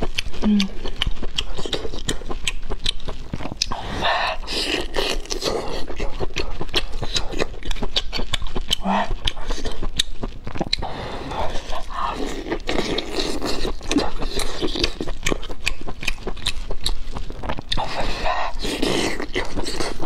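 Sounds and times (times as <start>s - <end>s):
chewing soft meat: 0.0s - 20.0s
wet mouth noises: 0.0s - 20.0s.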